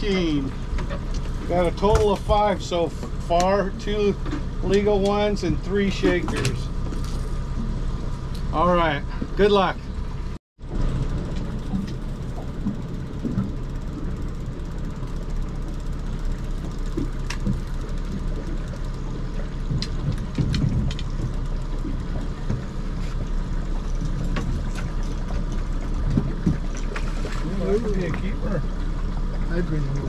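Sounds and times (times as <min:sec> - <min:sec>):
outboard motor humming: 0:00.0 - 0:30.0
water noise: 0:00.0 - 0:30.0.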